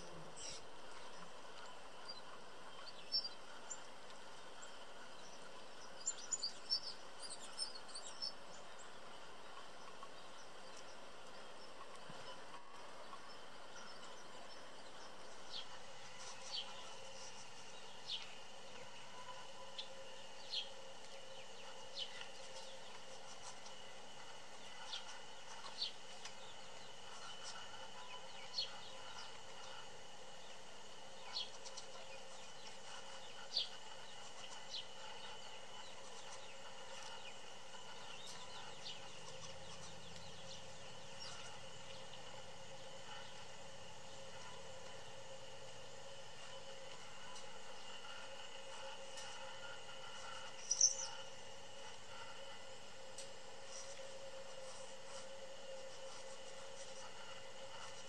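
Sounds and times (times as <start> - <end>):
faint steady background hum: 0.0 - 58.0
songbirds chirping: 0.0 - 58.0.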